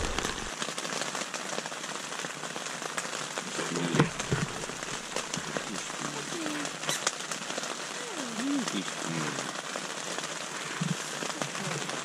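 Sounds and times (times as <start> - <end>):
rain pattering on tent fabric: 0.0 - 12.0.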